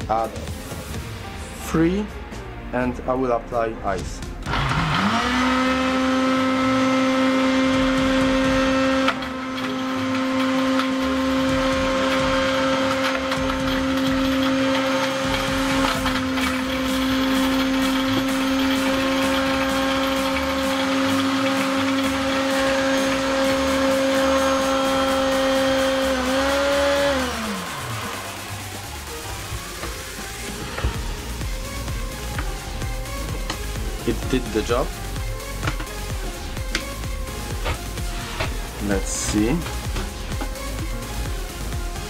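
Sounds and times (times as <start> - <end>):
blender crushing ice: 4.4 - 42.0.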